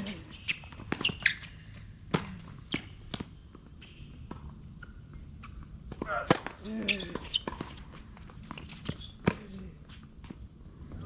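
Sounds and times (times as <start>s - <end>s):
tennis ball bouncing on court: 0.0s - 10.4s.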